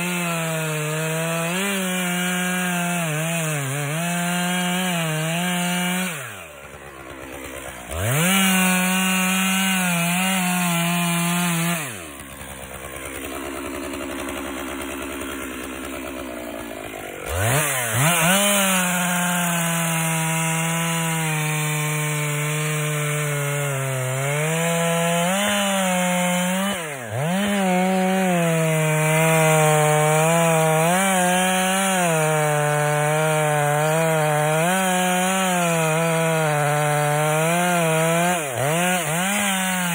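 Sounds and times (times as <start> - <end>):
chainsaw cutting into tree: 0.0 - 39.9.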